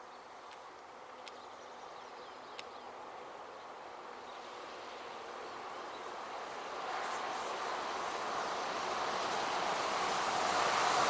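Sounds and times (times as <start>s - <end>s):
rural outdoor background: 0.0s - 11.0s.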